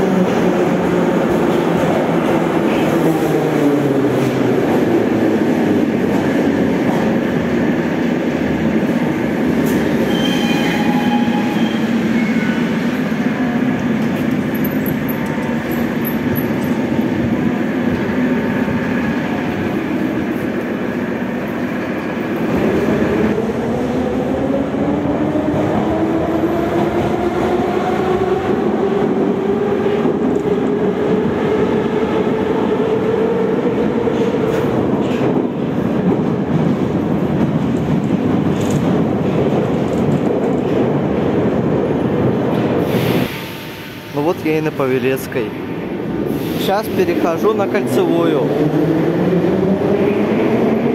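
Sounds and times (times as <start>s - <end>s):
train wheels rumbling: 0.0s - 50.9s.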